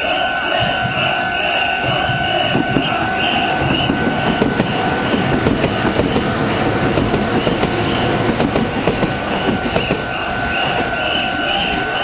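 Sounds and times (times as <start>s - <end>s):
crossing warning bell ringing: 0.0s - 12.0s
train wheels clacking: 0.0s - 12.0s.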